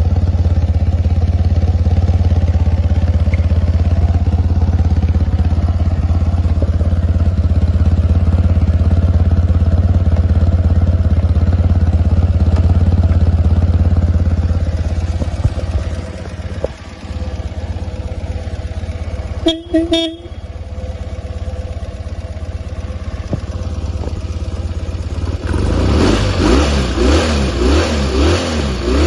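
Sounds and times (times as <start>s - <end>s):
motorcycle engine idling: 0.0s - 27.6s.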